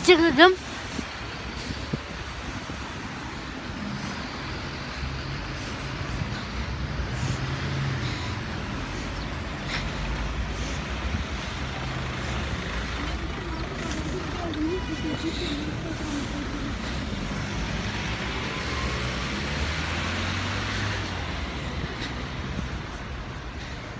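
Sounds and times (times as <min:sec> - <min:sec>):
passing vehicles: 0:00.0 - 0:23.9.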